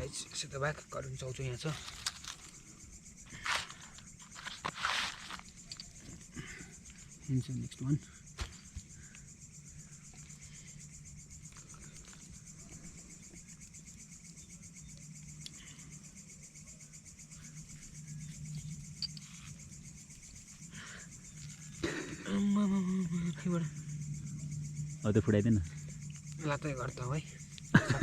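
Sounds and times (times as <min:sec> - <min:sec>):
night insects trilling: 0:00.0 - 0:28.0
low steady hum: 0:01.2 - 0:28.0.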